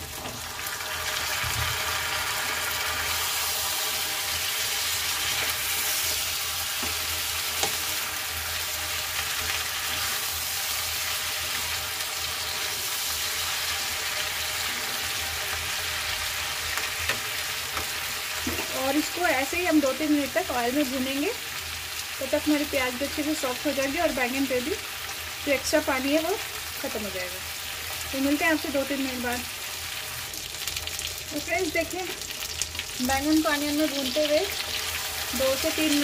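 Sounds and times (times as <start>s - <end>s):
oil sizzling and spitting: 0.0s - 36.0s.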